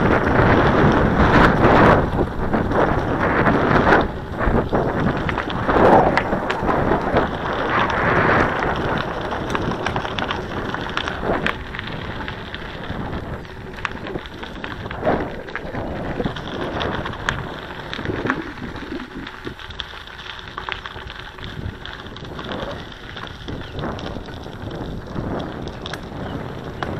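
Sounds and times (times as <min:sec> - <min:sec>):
bike clicks and rattles: 0:00.0 - 0:26.9
tyres crunching over gravel: 0:00.0 - 0:26.9
wind buffeting microphone: 0:00.0 - 0:26.9.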